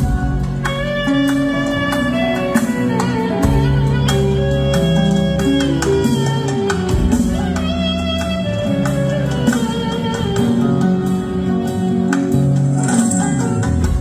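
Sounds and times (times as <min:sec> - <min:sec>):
clarinet melody: 0:00.0 - 0:14.0
drum kit beat: 0:00.0 - 0:14.0
keyboard accompaniment: 0:00.0 - 0:14.0.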